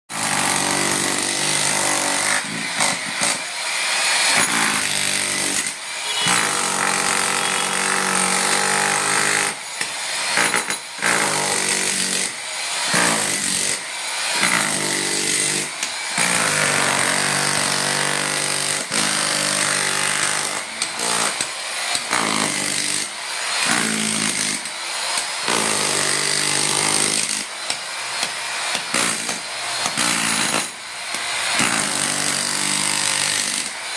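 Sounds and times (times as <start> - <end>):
power tool running in bursts: 0.2 - 33.9.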